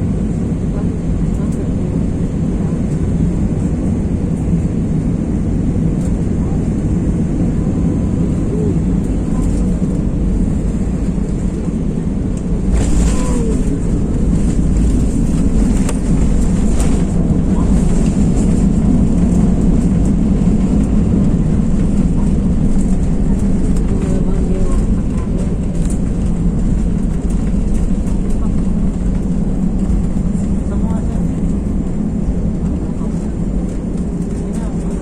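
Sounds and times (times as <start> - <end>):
airliner engine drone: 0.0 - 35.0
rushing air with deep rumble: 0.0 - 35.0.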